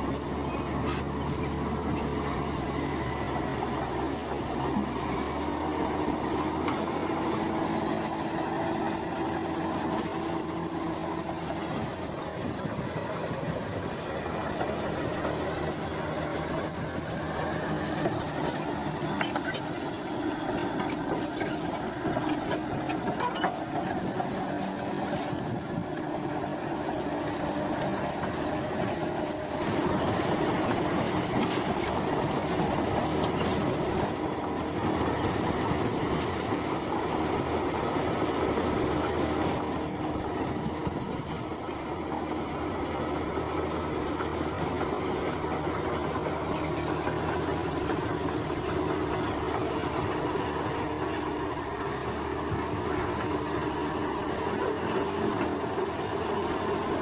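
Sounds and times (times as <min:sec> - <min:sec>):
bulldozer diesel engine running: 0:00.0 - 0:57.0
steel tracks clattering and squealing: 0:00.0 - 0:57.0.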